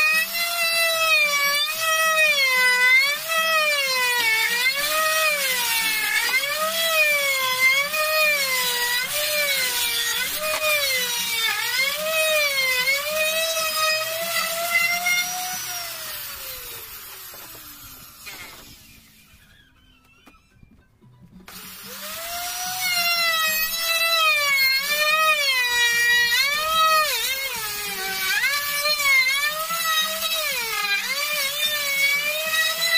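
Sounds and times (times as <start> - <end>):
wood router cutting wood: 0.0 - 20.4, 21.5 - 32.9.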